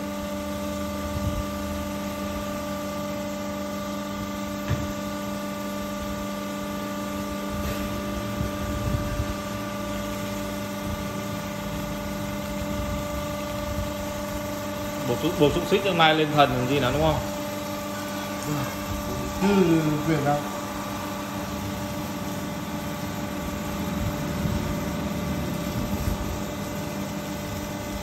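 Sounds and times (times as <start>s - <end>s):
pump motor humming: 0.0s - 28.0s.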